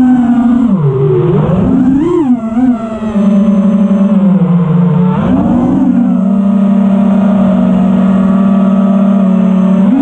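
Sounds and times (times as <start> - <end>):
drone motor and propeller whine: 0.0 - 10.0.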